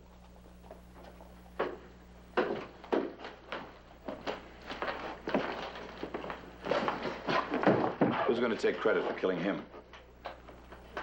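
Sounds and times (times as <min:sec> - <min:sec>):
footsteps walking: 0:00.0 - 0:11.0
steady low hum: 0:00.0 - 0:11.0.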